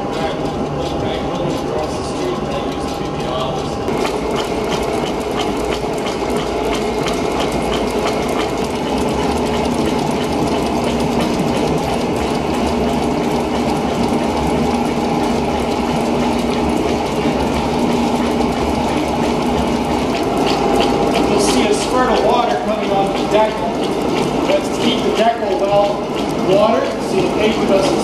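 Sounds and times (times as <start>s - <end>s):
machine continuous hum: 0.0s - 28.0s
paper machine mechanical clatter: 0.0s - 28.0s.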